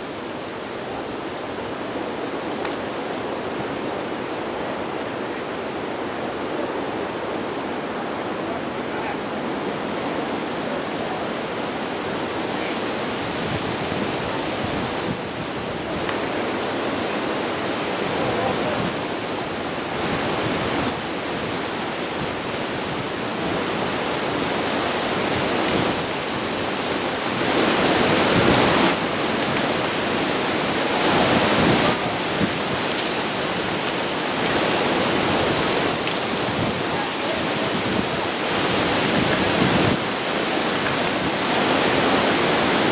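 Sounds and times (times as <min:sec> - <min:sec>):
heavy rain: 0:00.0 - 0:42.9
storm wind: 0:00.0 - 0:42.9.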